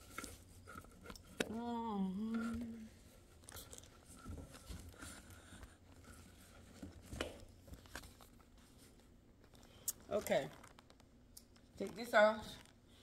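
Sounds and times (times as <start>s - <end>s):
phone rustling against clothing: 0.0s - 13.0s.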